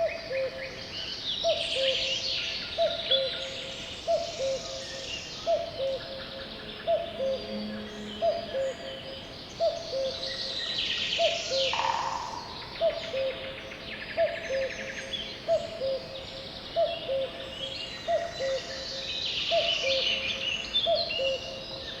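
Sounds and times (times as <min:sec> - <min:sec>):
birds chirping and trilling: 0:01.4 - 0:22.0.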